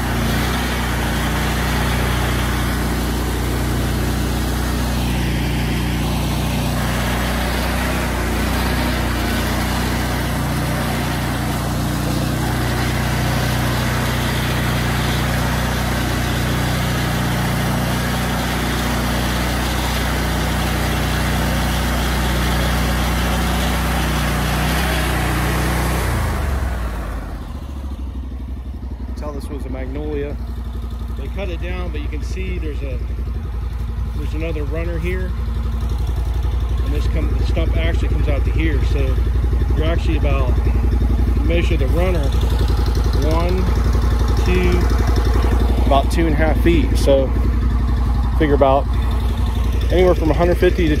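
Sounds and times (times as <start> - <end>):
stump grinder engine running: 0.0 - 51.0.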